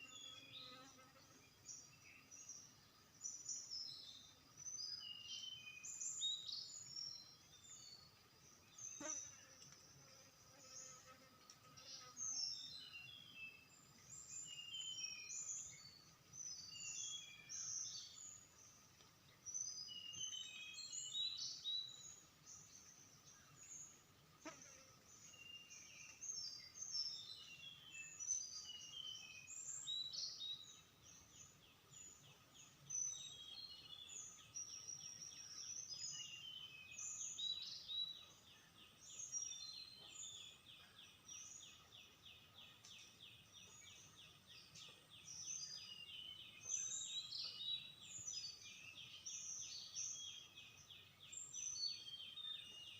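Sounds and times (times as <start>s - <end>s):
songbird chirping: 0.0s - 52.9s.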